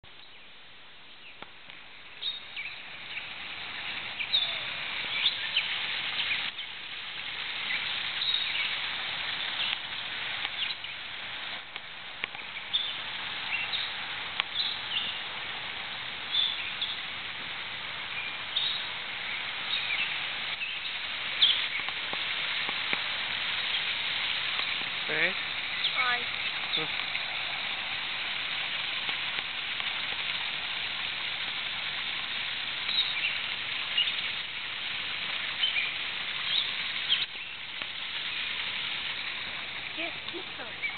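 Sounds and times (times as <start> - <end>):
birds chirping: 0.0 - 11.1, 12.2 - 15.4, 16.1 - 17.1, 18.0 - 28.0, 32.3 - 34.5, 35.3 - 40.9
rushing hiss: 0.1 - 40.9.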